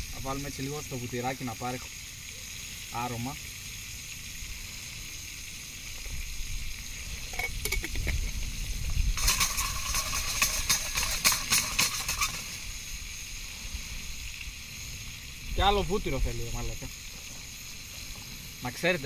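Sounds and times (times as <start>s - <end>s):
steaks sizzling in a pan: 0.0s - 19.0s.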